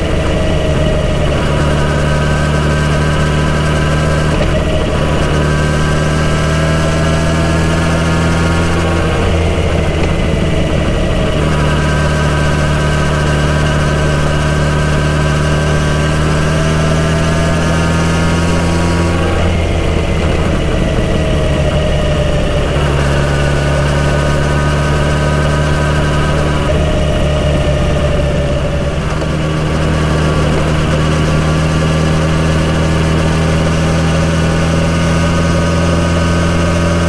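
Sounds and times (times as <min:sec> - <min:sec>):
motorcycle engine pulling: 0:00.0 - 0:37.0.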